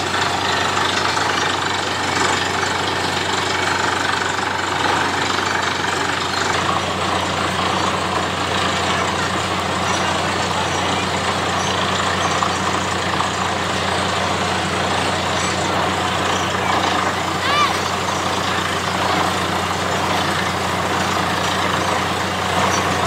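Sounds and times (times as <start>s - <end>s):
drilling rig rushing noise: 0.0s - 23.0s
low engine hum: 0.0s - 23.0s.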